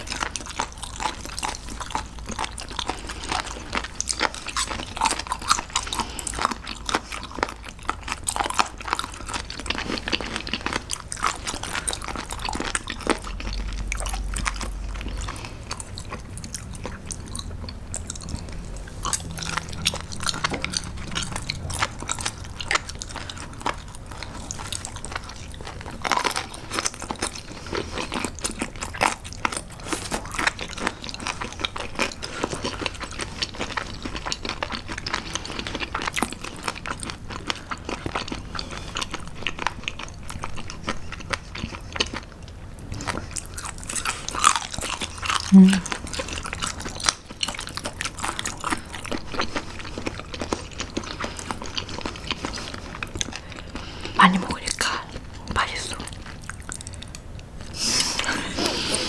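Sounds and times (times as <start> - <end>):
crunchy wet chewing: 0.0 - 59.0.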